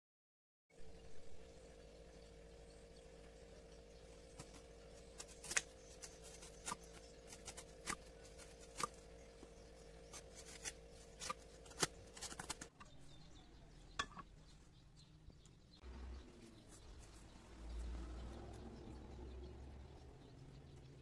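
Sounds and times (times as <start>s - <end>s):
steady low hum: 0.7s - 21.0s.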